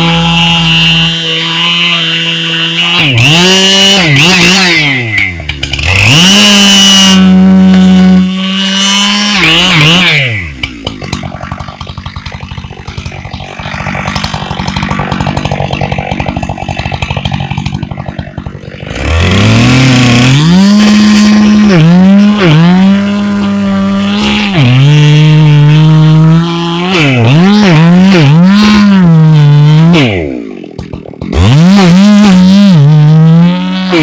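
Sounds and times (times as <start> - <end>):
chainsaw cutting into tree trunk: 0.0 - 34.0
chainsaw revving and idling: 0.0 - 34.0.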